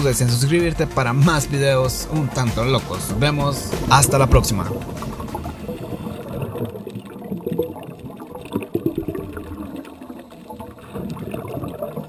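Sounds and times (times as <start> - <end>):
underwater rumbling and bubbling: 0.0 - 12.0.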